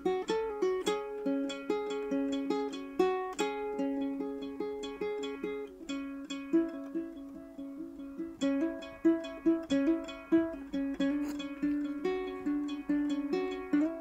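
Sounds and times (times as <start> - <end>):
ukulele plucked melody: 0.0 - 14.0.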